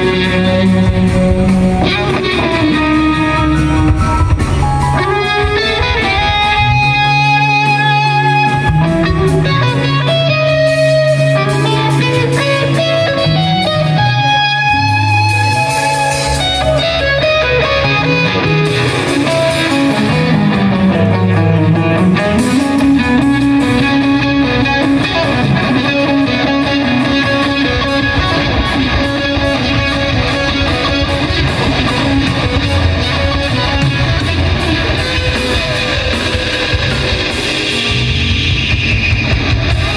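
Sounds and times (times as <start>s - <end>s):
electric guitar held notes: 0.0s - 39.9s.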